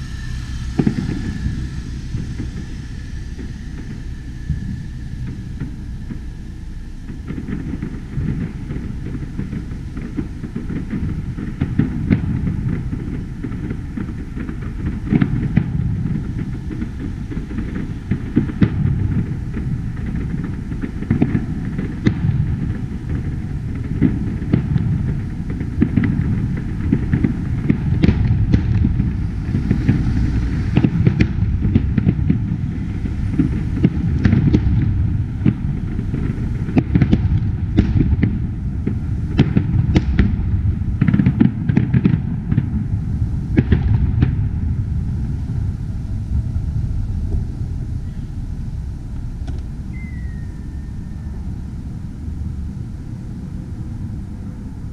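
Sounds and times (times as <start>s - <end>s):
fireworks bangs and crackles: 0.0s - 54.9s
low fireworks rumble: 0.0s - 54.9s.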